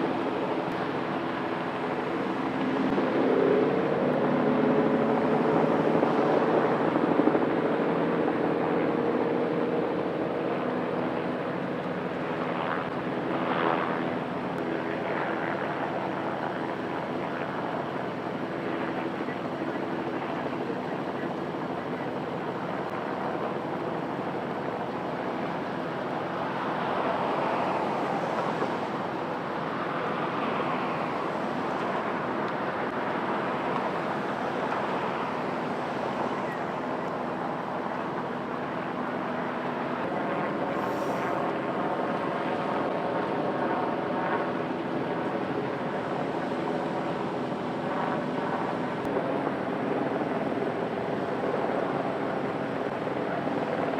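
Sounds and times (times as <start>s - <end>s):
helicopter rotor and turbine: 0.0s - 53.9s.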